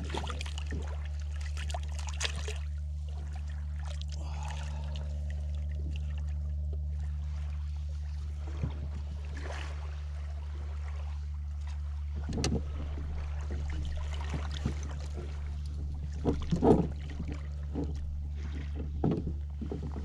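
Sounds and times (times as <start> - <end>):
steady low hum: 0.0 - 20.0
water splashing and trickling: 0.0 - 20.0.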